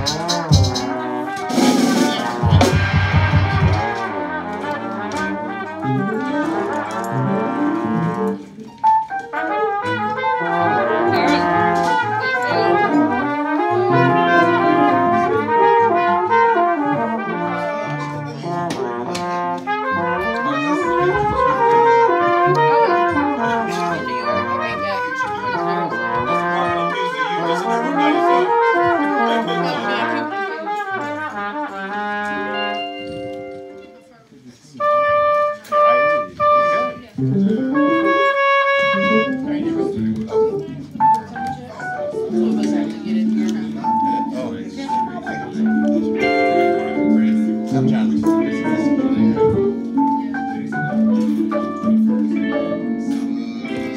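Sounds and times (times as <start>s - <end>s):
trombone: 0.0s - 33.9s, 34.8s - 40.3s, 41.9s - 53.1s
jazz band playing: 0.0s - 34.1s, 34.7s - 53.9s
trumpet: 0.0s - 34.1s, 34.7s - 41.2s, 41.8s - 53.9s.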